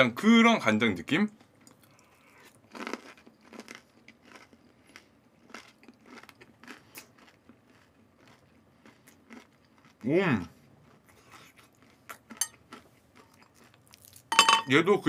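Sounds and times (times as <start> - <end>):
crunchy chewing: 1.4 - 14.3.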